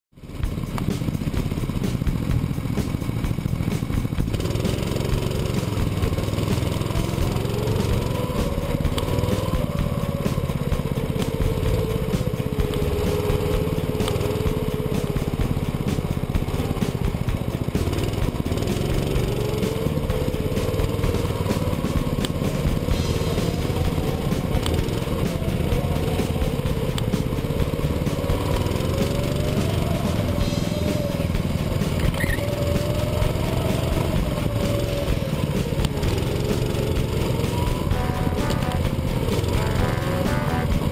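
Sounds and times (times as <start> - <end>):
go-kart engine revving: 0.2 - 40.9.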